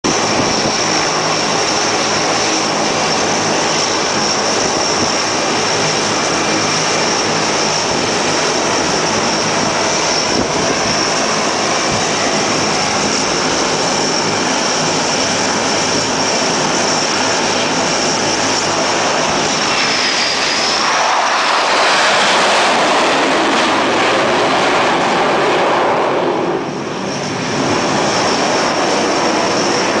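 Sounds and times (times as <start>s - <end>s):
fighter jet roar: 0.0s - 30.0s
jet engine noise: 0.0s - 30.0s
steady high whine: 0.0s - 30.0s.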